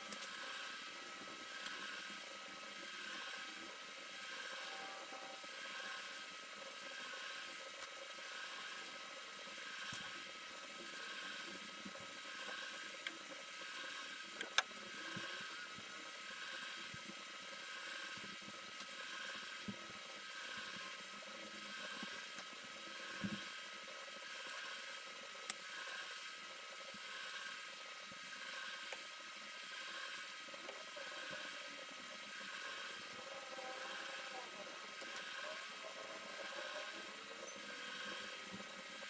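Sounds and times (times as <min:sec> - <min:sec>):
low hiss and whir: 0:00.0 - 0:39.0.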